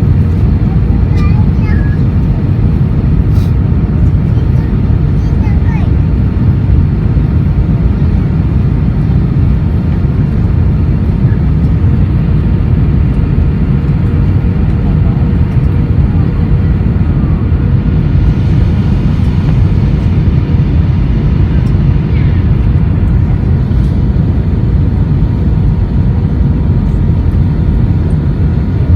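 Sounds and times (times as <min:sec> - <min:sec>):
airliner cabin engine roar: 0:00.0 - 0:28.9.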